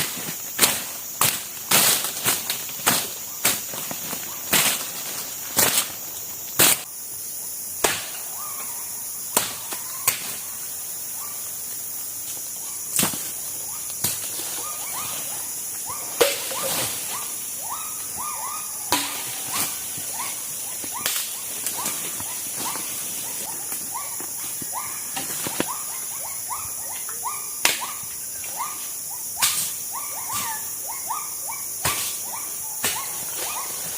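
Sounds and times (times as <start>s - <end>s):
high insect drone: 0.0s - 33.9s.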